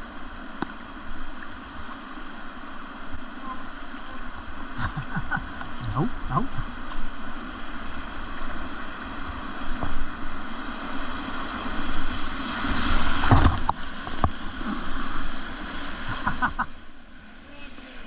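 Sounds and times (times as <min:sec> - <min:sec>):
rushing whitewater: 0:00.0 - 0:18.0.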